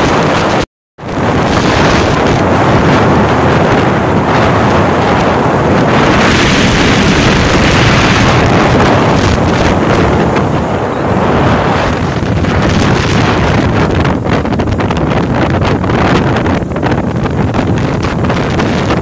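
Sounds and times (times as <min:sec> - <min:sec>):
road noise: 0:00.0 - 0:19.0
wind roaring over microphone: 0:00.0 - 0:19.0.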